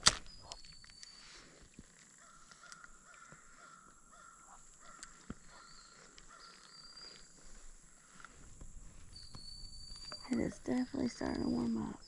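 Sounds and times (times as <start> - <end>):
faint bird calls: 0.3 - 10.5.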